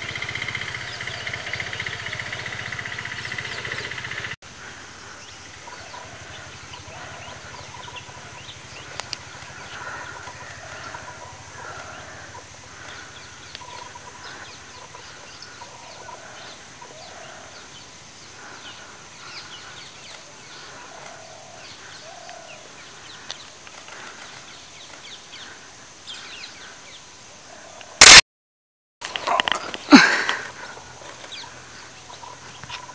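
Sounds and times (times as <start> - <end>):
birds chirping: 0.0 - 28.2, 29.0 - 32.9.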